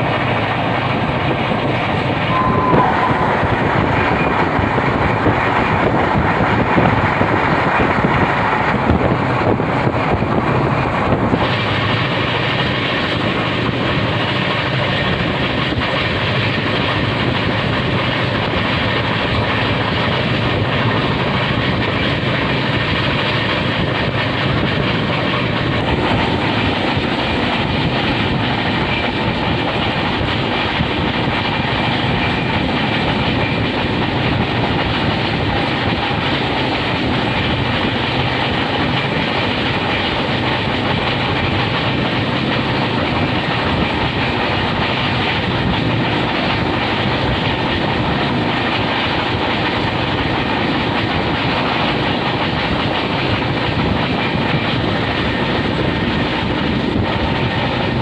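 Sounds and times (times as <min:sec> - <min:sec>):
passing train: 0:00.0 - 0:58.0
train wheels rumbling and clattering: 0:00.0 - 0:58.0.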